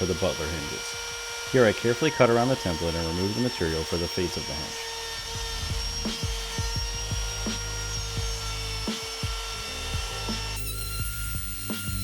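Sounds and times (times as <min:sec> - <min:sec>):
wood router running: 0:00.0 - 0:12.0.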